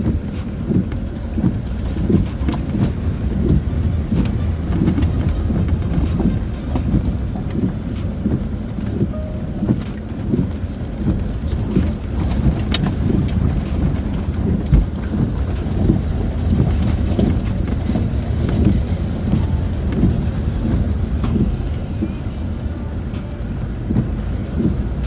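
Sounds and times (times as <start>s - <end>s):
wheels knocking on rocks: 0.0s - 22.5s
engine and tyre rumble: 0.0s - 25.0s.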